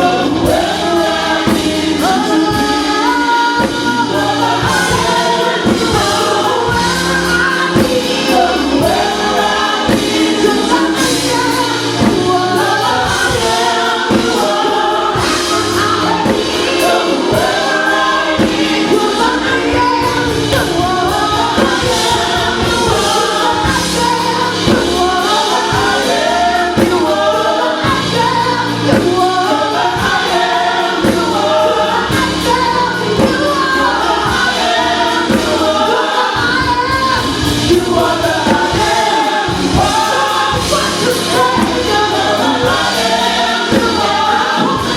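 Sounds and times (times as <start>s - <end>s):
band with bass and beat: 0.0s - 44.9s
gospel choir singing: 0.0s - 44.9s.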